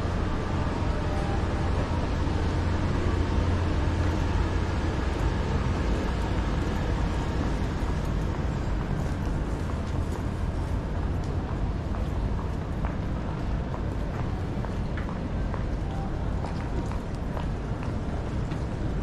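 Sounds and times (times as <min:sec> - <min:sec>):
night city street ambience: 0:00.0 - 0:19.0.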